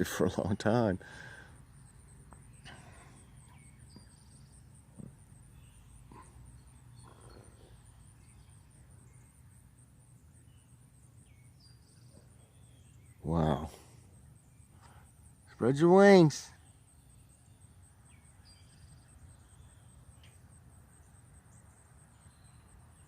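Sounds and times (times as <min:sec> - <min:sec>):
insects trilling: 0:00.0 - 0:23.0
faint bird chirps: 0:00.6 - 0:23.0.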